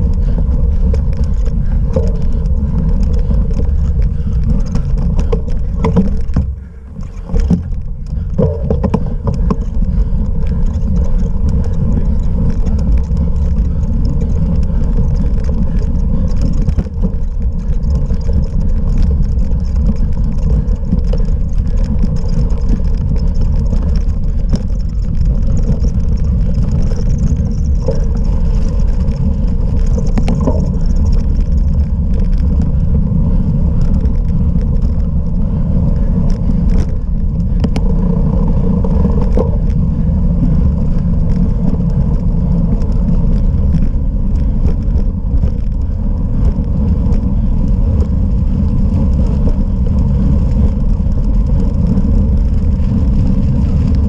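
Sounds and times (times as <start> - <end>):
bike clicks and rattles: 0.0 - 54.0
bike wind and tyre rumble: 0.0 - 54.0.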